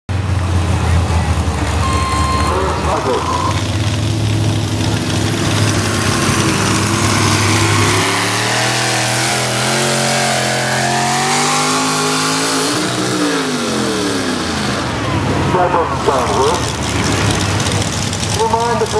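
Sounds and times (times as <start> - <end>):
tractor engine revving: 0.1 - 18.9.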